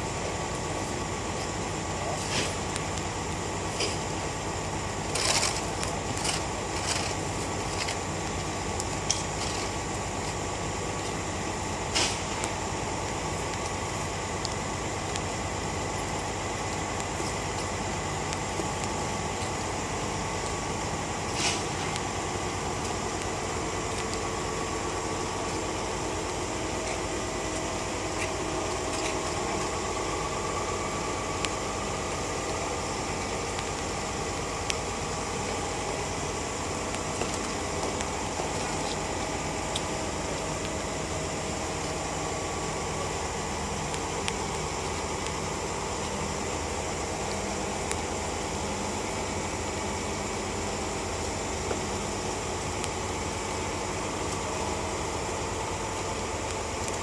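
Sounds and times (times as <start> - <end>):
diesel excavator idling: 0.0 - 57.0.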